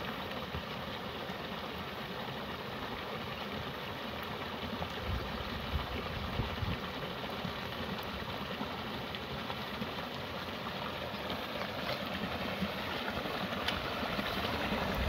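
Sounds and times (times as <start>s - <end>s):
water rushing down a channel: 0.0s - 15.0s.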